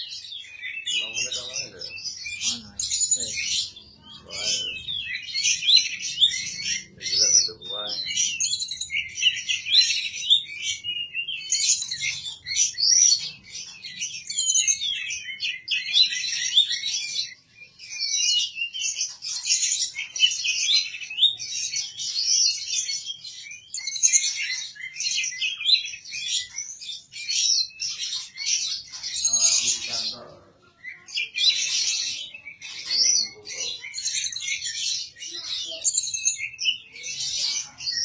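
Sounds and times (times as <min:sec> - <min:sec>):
songbird singing chirps and trills: 0:00.0 - 0:38.0.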